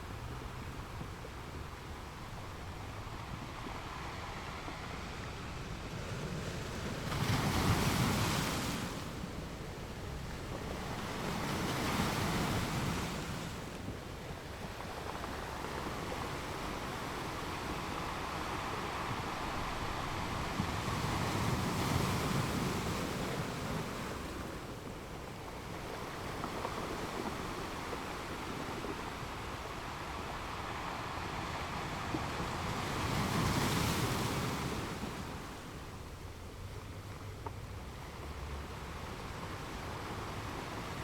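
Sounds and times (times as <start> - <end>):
ocean waves breaking on beach: 0.0 - 36.7, 37.7 - 41.0.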